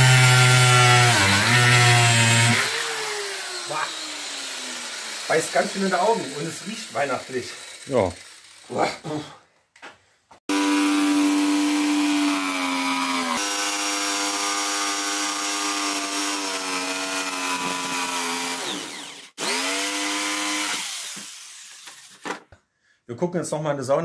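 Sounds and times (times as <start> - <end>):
jigsaw cutting wood: 0.0 - 9.2, 10.5 - 22.4.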